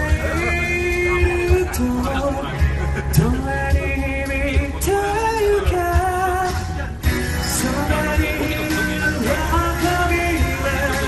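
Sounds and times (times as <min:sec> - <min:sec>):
song with singing over a beat: 0:00.0 - 0:11.0.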